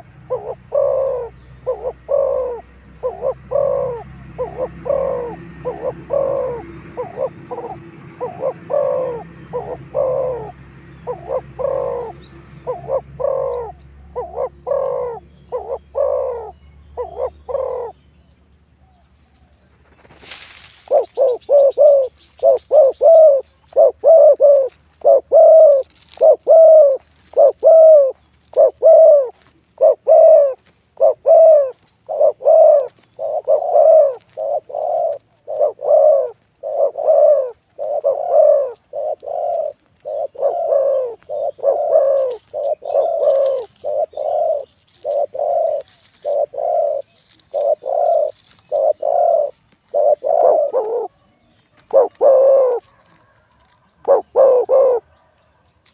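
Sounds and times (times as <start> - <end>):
dove cooing: 0.0 - 18.0, 18.8 - 55.9.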